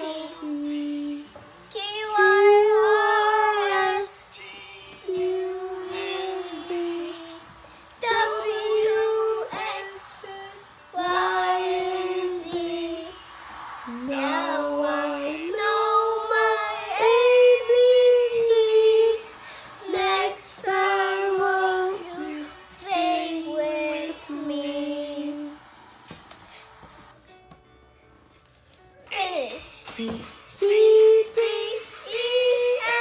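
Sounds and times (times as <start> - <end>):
child singing: 0.0 - 13.2, 13.9 - 25.6, 29.1 - 33.0
woman singing: 0.0 - 13.2, 13.9 - 25.6, 29.9 - 33.0.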